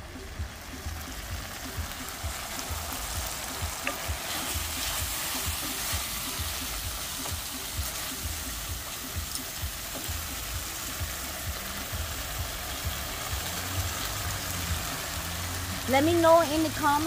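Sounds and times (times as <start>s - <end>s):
curry paste sizzling in a pan: 0.0s - 17.0s.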